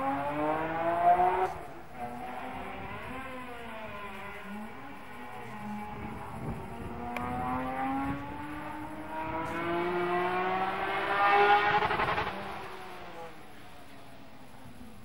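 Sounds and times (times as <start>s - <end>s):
race car engine accelerating: 0.0s - 13.5s.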